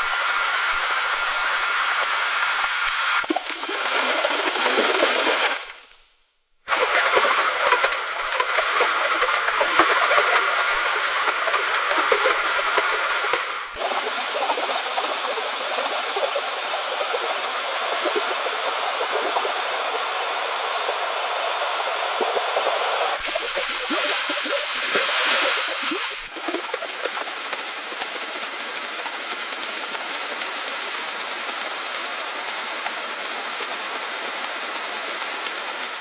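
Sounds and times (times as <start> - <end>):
splashing churning pool water: 6.7 - 35.8.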